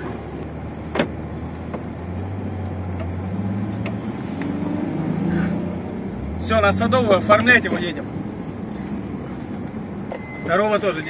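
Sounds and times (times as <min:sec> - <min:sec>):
car engine hum from inside: 0:00.0 - 0:11.0.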